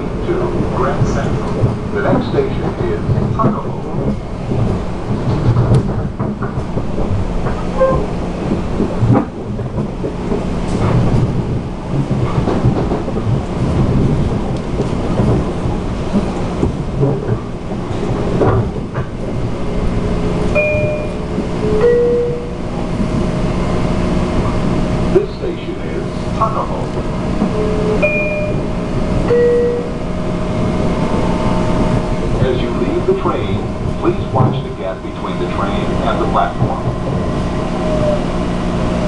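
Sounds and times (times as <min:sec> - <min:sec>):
train wheels rumbling on rails: 0:00.0 - 0:39.0
sharp track knocks: 0:00.8 - 0:23.4, 0:26.4 - 0:37.4.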